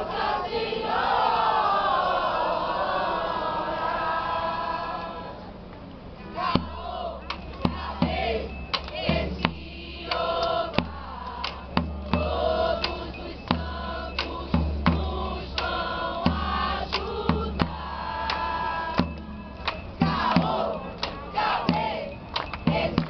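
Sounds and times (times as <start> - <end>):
group singing together: 0.0 - 5.6, 6.3 - 23.0.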